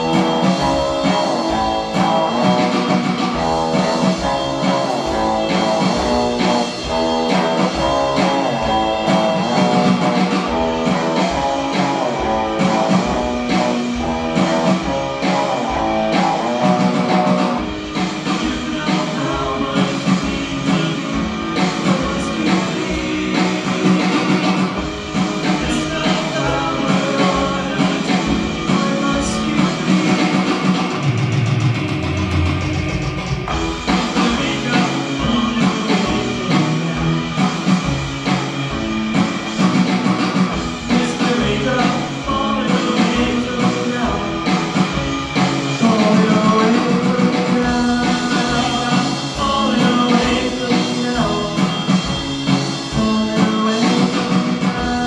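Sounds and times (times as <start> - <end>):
drums beat: 0.0 - 55.0
rock band playing live: 0.0 - 55.0.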